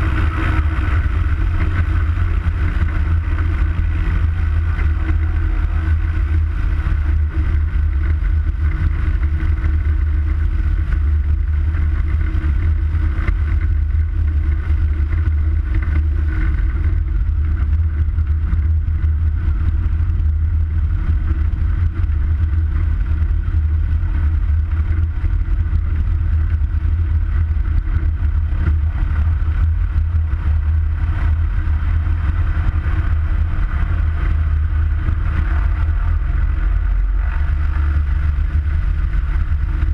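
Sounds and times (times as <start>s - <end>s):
plane engine and propeller: 0.0s - 39.9s.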